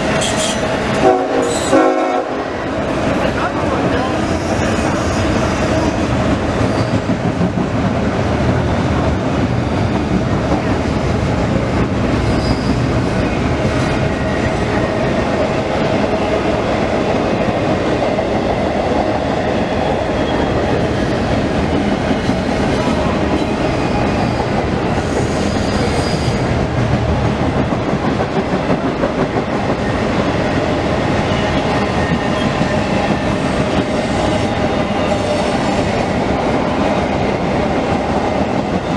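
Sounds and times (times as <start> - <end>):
freight train rumbling past: 0.0 - 38.9
train wheels clickety-clack: 0.0 - 38.9.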